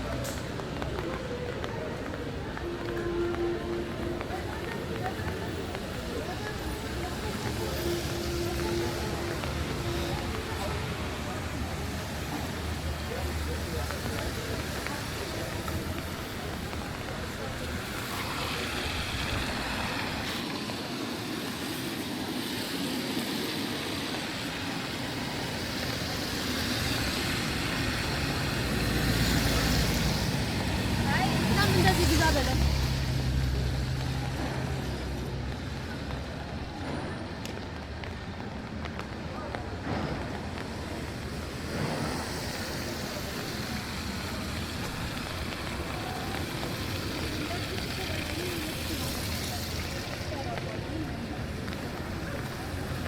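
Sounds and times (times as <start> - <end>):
city road traffic: 0.0 - 53.0.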